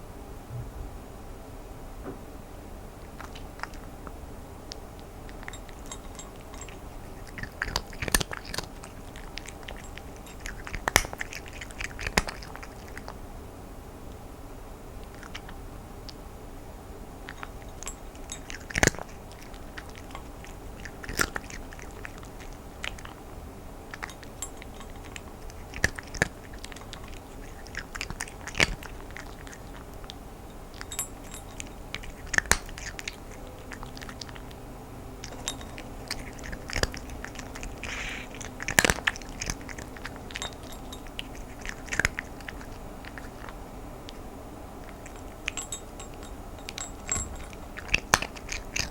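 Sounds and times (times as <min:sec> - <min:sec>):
cat crunching dry kibble: 0:03.0 - 0:13.2, 0:15.0 - 0:16.2, 0:17.2 - 0:48.9.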